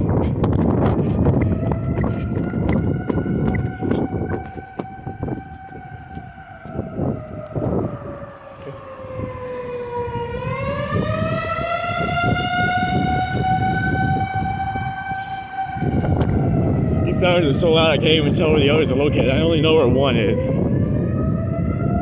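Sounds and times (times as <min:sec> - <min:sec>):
low rumbling noise: 0:00.0 - 0:19.6
warning siren wailing: 0:00.0 - 0:22.0.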